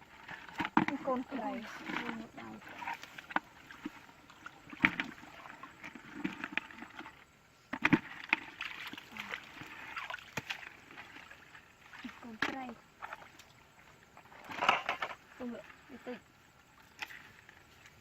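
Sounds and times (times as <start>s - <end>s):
water sloshing: 0.0s - 18.0s.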